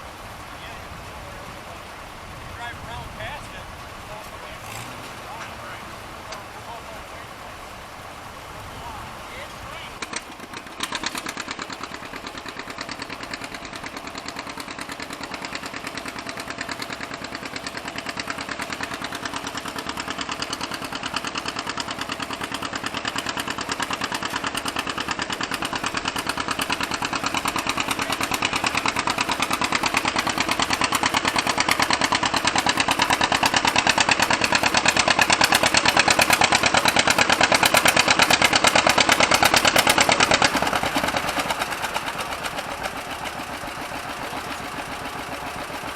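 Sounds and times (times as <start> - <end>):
tractor engine running hard: 0.0 - 45.9.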